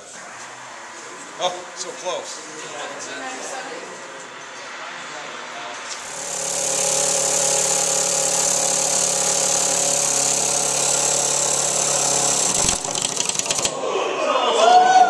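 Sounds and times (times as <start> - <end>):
air hissing: 0.0 - 13.7.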